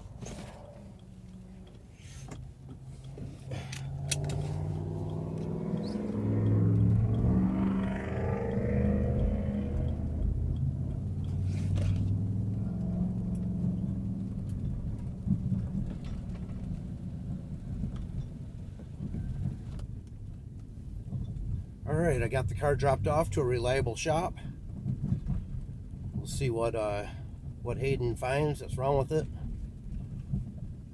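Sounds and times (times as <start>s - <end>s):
pickup truck engine and exhaust: 0.0s - 30.9s.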